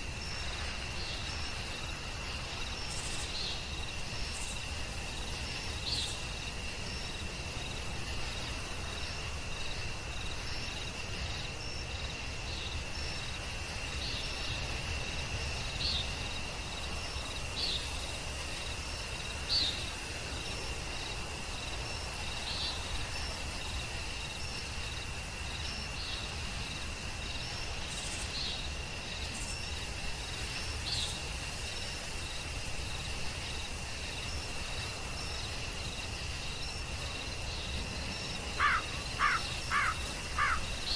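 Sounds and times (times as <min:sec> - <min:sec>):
high-pitched insect trill: 0:00.0 - 0:40.9.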